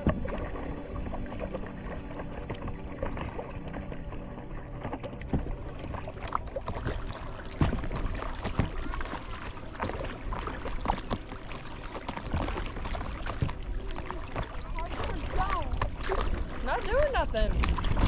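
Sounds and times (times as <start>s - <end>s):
paddle splashes and drips: 0.0s - 18.0s.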